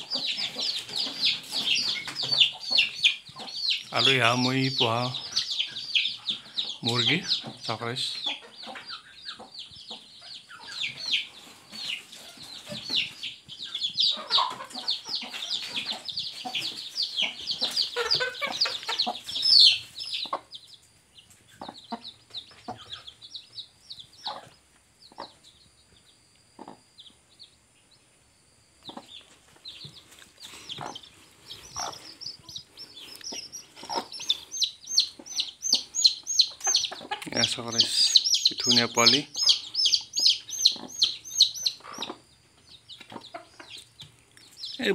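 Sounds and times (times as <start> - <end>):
hen clucking: 0.0 - 25.6, 26.6 - 27.4, 28.8 - 44.9
chicks peeping: 0.0 - 44.9.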